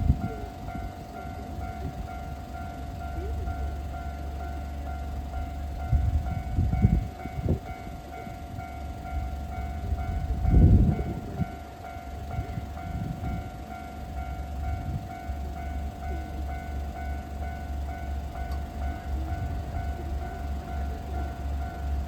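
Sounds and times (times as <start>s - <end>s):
freight train rumble: 0.0s - 22.0s
level crossing alarm ringing: 0.2s - 22.0s.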